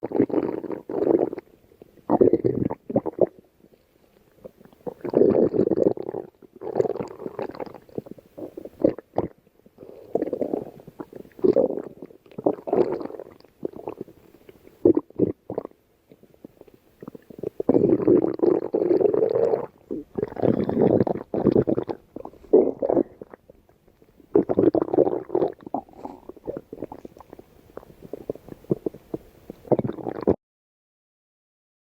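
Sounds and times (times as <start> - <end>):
stomach growling: 0.0 - 30.4.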